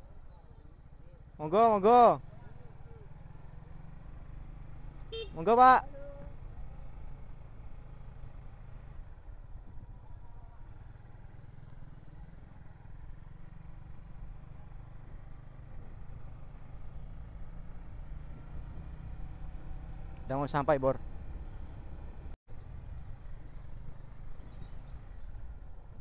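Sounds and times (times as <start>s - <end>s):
motorcycle running at low speed: 0.0s - 26.0s.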